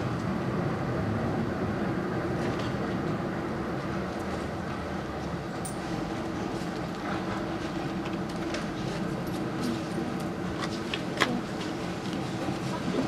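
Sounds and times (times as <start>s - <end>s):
funicular cars humming on track: 0.0s - 13.0s.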